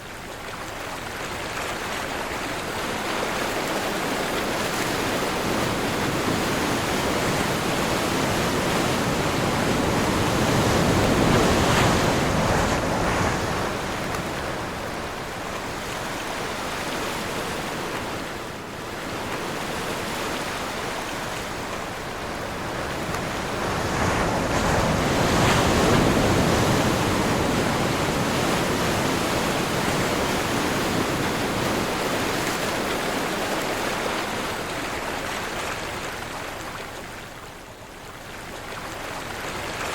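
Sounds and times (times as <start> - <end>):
wind: 0.0 - 39.9
sea waves breaking ashore: 0.3 - 39.9.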